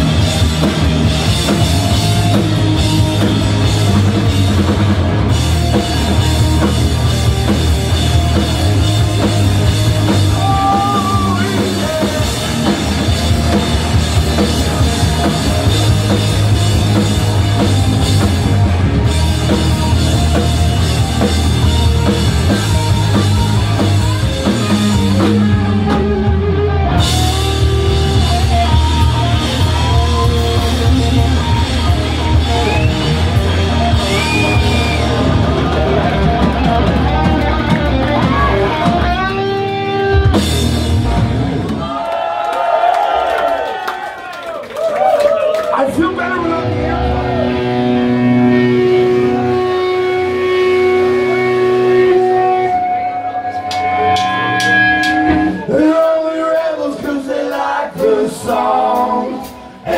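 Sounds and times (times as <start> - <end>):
punk rock band playing live: 0.0 - 41.9, 45.0 - 59.9.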